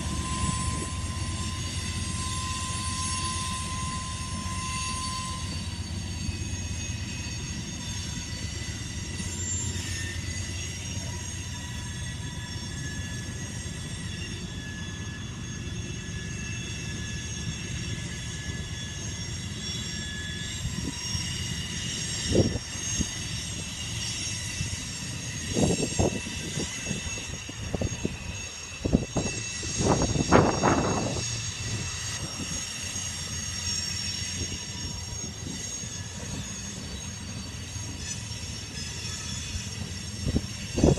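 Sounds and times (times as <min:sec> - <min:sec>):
train wheels rumbling on rail: 0:00.0 - 0:40.9
wheel squeal: 0:00.0 - 0:40.9.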